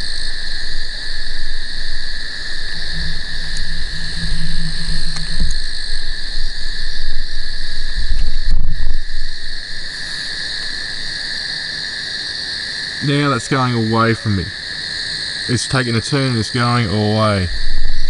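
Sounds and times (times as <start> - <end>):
frogs and insects trilling: 0.0 - 18.0.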